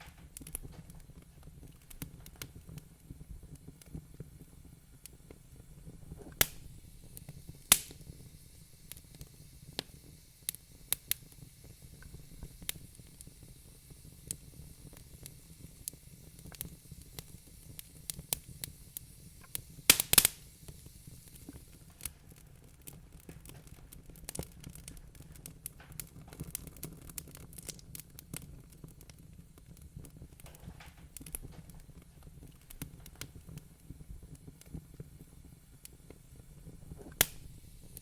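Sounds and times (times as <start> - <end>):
wood fire pops and snaps: 0.0 - 38.0.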